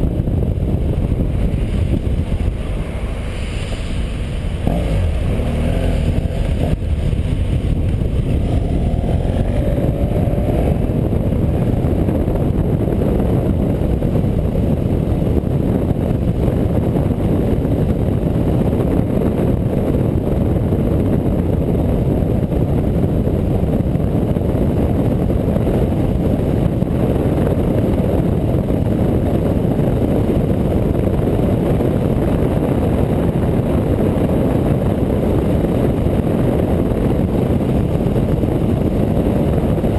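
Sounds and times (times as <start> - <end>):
motorcycle engine: 0.0 - 39.9
road noise: 0.0 - 39.9
wind on microphone: 0.0 - 39.9.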